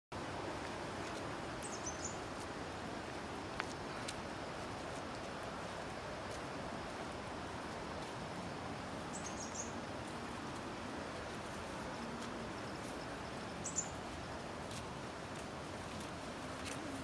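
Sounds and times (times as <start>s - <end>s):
outdoor background noise: 0.1s - 17.0s.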